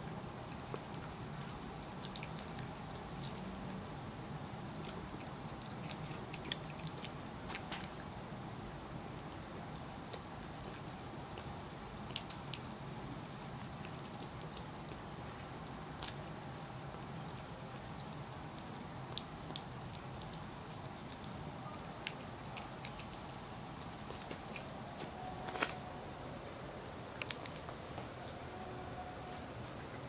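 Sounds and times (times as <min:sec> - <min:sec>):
cat licking and chewing: 0:00.0 - 0:25.7, 0:27.1 - 0:28.4
low background hum: 0:00.0 - 0:30.0.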